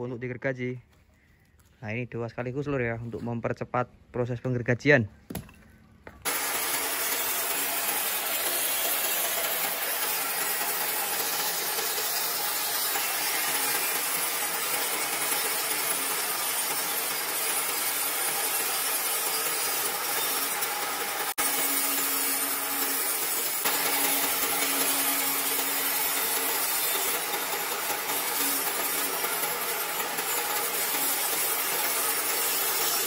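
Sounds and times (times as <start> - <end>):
band saw cutting logs: 6.2 - 33.0.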